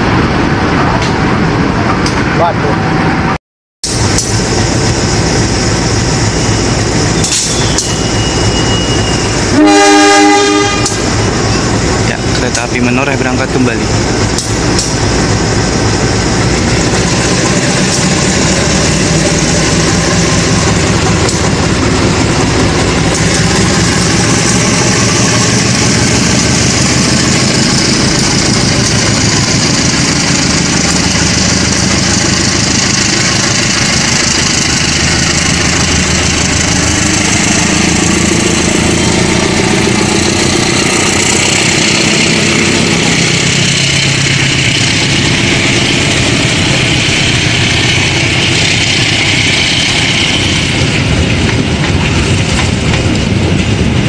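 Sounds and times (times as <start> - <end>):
locomotive diesel engine running: 0.0 - 54.0.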